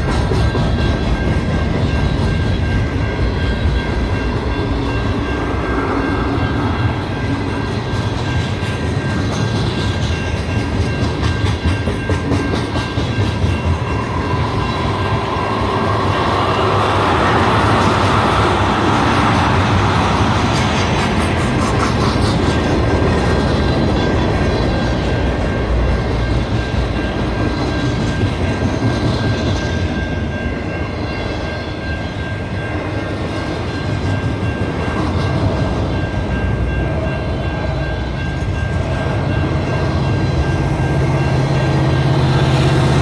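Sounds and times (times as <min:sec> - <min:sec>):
freight train wheels rumbling: 0:00.0 - 0:43.0.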